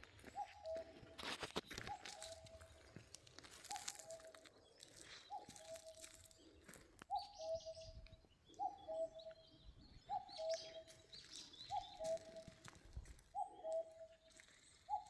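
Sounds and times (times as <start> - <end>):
small birds chirping faintly: 0.0 - 15.0.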